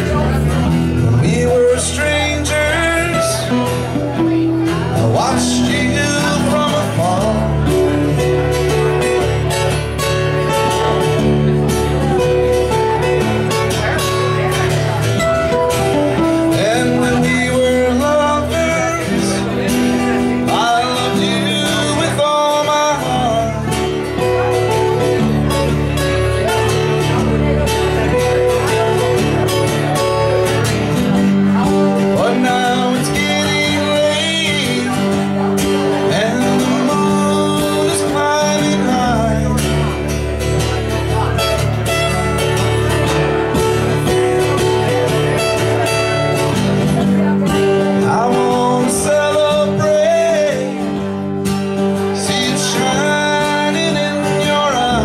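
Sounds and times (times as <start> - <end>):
acoustic guitar strumming and picking: 0.0 - 55.0
man singing: 0.0 - 55.0.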